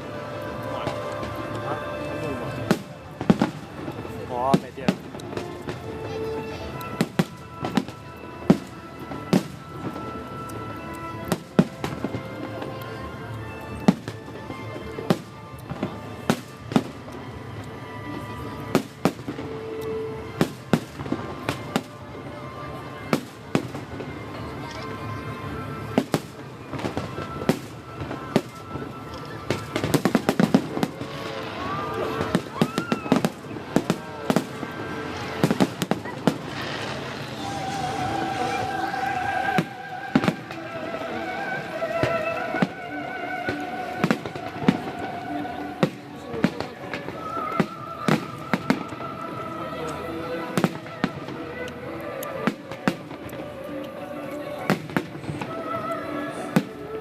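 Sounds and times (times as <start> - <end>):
fireworks bursting: 0.0 - 57.0
show music with held notes: 0.0 - 57.0.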